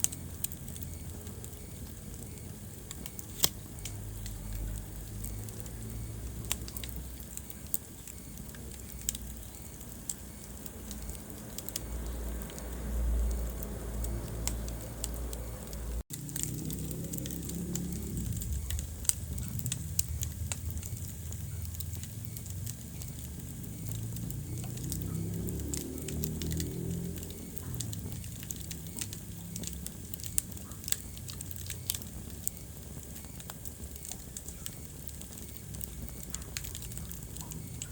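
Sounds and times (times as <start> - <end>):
fire crackling and popping: 0.0 - 37.9
low rumble of flames: 0.0 - 37.9.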